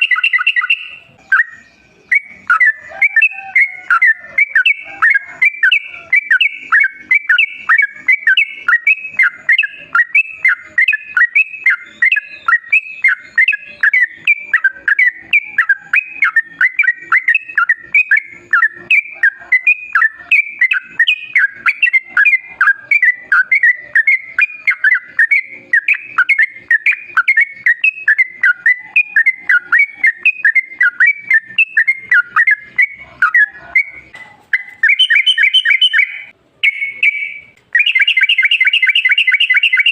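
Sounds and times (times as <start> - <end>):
bird song of rapid chirpy notes: 0.0 - 39.9.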